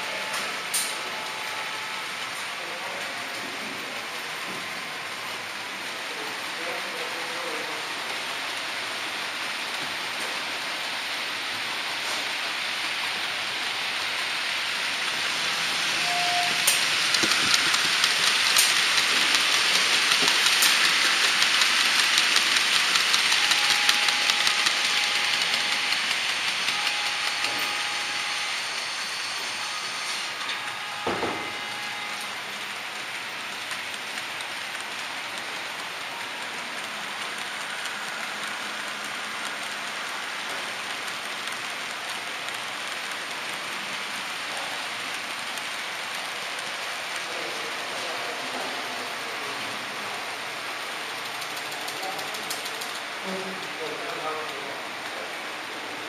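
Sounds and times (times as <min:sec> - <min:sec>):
model train wheels clicking on rails: 0:00.0 - 0:56.0.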